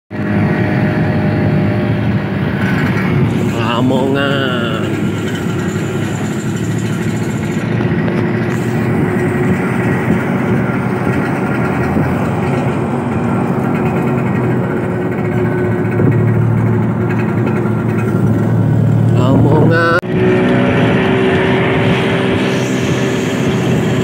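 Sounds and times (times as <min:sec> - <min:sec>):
road noise: 0:00.1 - 0:24.0
scooter engine running: 0:00.1 - 0:24.0
wind: 0:00.1 - 0:24.0.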